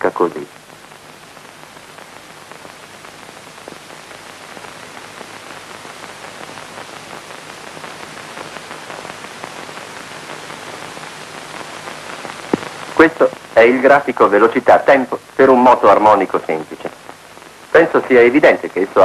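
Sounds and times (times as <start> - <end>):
film soundtrack surface hiss: 0.0 - 19.0.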